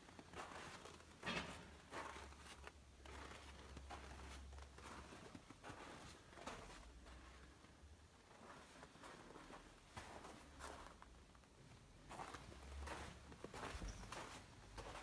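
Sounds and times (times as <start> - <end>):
soft footsteps: 0.0 - 15.0.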